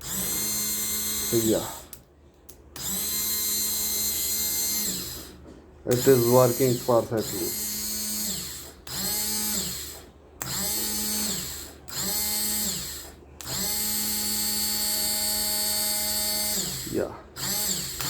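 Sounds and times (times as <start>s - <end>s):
starter motor whining: 0.0s - 2.0s, 2.8s - 18.0s.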